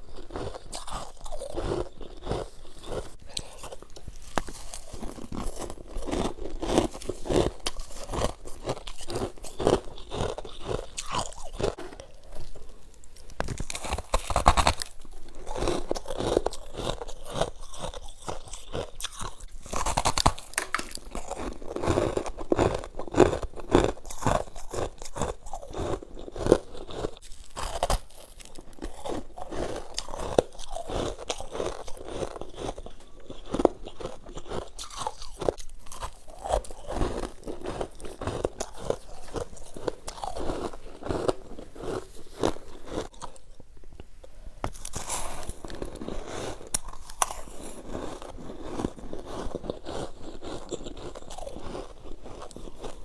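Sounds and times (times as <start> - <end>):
crunching and chewing frost: 0.0 - 53.0.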